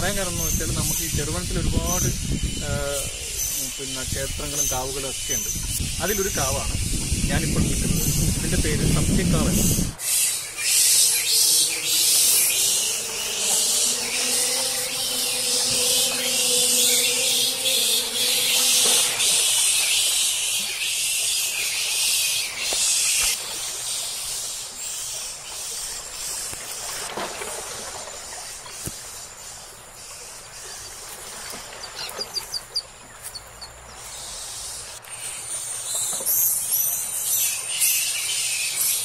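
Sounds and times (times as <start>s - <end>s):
insects droning: 0.0s - 39.0s
woodland ambience: 0.0s - 39.0s.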